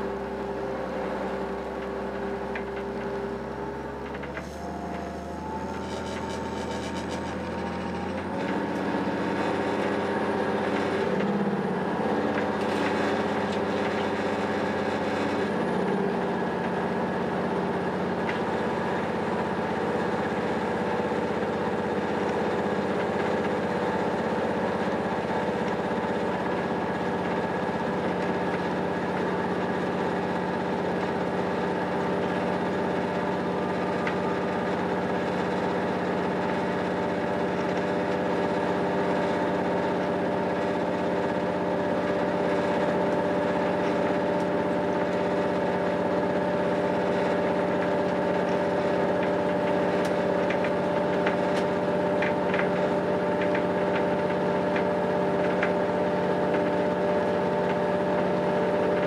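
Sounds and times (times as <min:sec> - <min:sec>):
railcar diesel engine running: 0:00.0 - 0:59.0.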